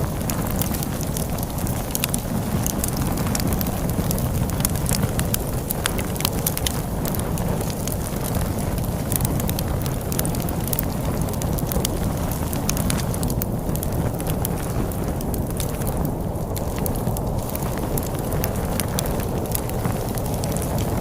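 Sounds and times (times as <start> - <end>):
low rumble of storm wind: 0.0 - 21.0
wood fire crackling and popping: 0.0 - 21.0.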